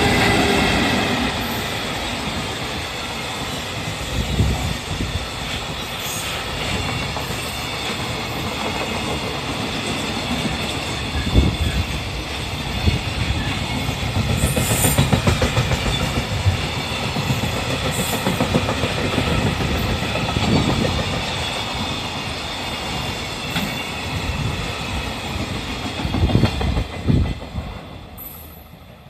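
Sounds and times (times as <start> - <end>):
train rumble: 0.0 - 29.0
train wheels clattering over rail joints: 3.8 - 27.8.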